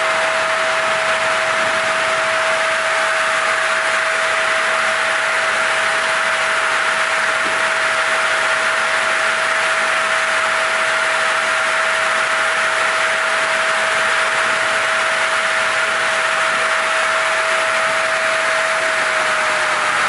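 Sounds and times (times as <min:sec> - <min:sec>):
sawmill blades whining: 0:00.0 - 0:20.0.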